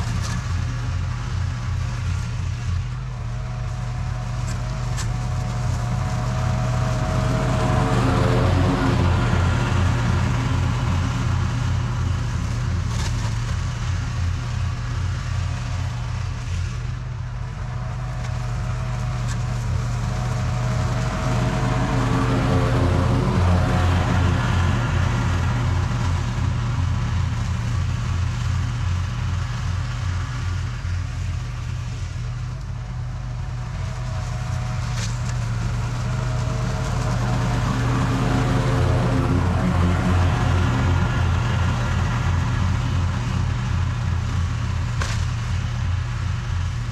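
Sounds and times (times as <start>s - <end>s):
riding mower engine mowing grass: 0.0s - 46.9s.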